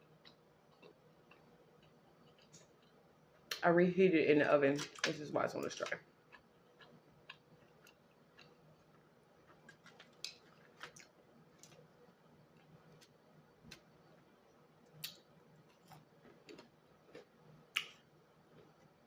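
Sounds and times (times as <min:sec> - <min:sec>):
soft chewing clicks and smacks: 0:00.0 - 0:03.6, 0:05.7 - 0:11.9, 0:12.5 - 0:19.0
faint low hum: 0:00.0 - 0:19.0.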